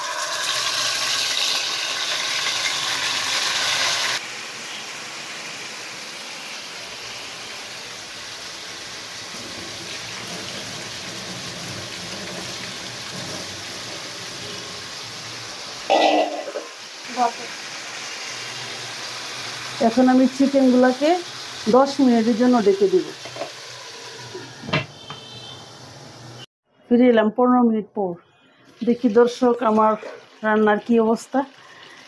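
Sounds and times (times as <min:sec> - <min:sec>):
chicken sizzling in a wok: 0:00.0 - 0:26.5, 0:28.5 - 0:32.0.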